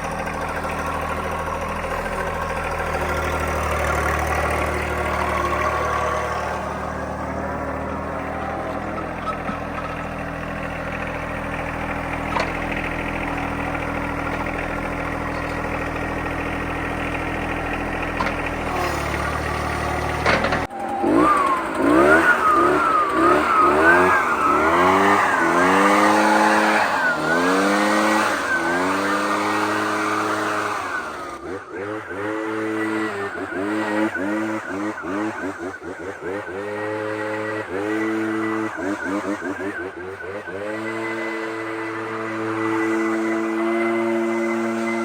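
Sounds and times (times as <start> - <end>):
stump grinder engine running: 0.0 - 45.0.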